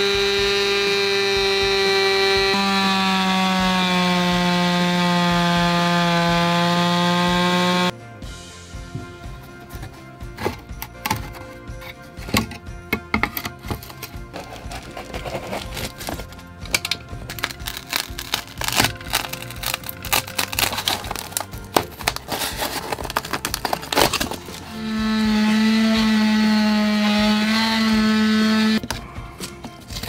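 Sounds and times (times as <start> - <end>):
steady buzz: 0.0 - 9.0, 13.6 - 30.0.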